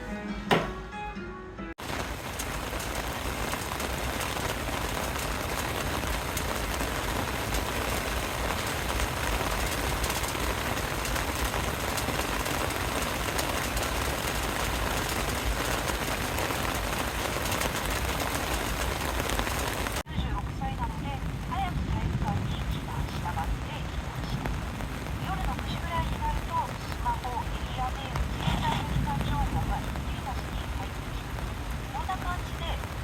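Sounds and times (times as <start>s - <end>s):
steady rain falling: 1.8s - 33.0s.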